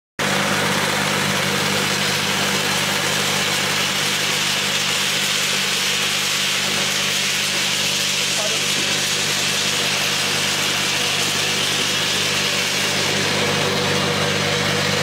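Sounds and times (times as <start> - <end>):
electric motor hum: 0.2 - 15.0
peanuts rattling through machine: 0.2 - 15.0.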